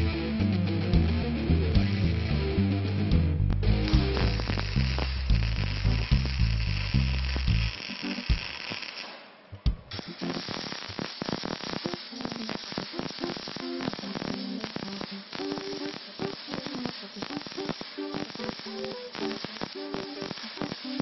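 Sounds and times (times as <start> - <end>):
background music: 0.0 - 8.7, 11.9 - 21.0
welding arc crackling: 3.4 - 21.0.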